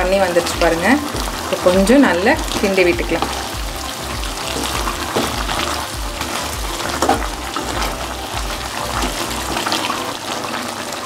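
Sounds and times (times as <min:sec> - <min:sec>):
chicken sizzling and bubbling: 0:00.0 - 0:11.0.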